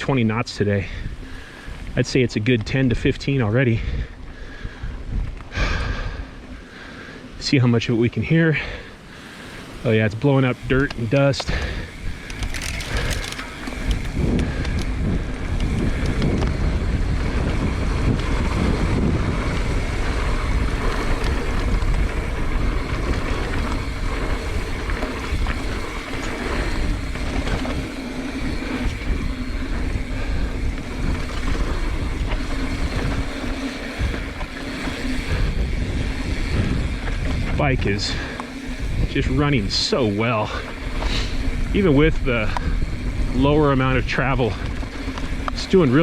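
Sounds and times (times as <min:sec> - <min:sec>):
mountain bike rattling on dirt trail: 0:00.0 - 0:46.0
wind buffeting microphone: 0:00.0 - 0:46.0.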